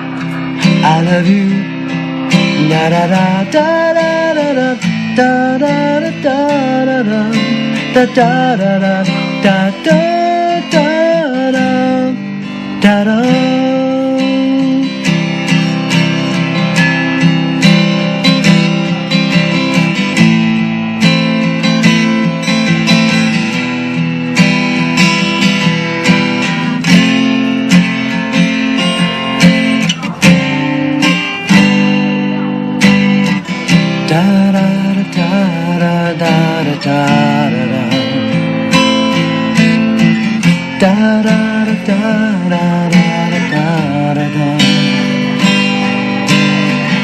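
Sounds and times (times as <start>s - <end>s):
acoustic guitar strumming: 0.0s - 47.0s.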